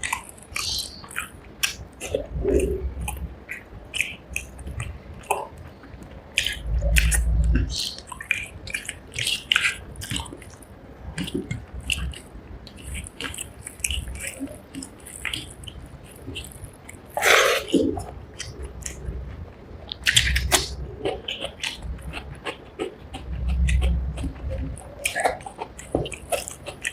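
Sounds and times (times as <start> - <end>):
chewing food with wet smacking: 0.0 - 26.9.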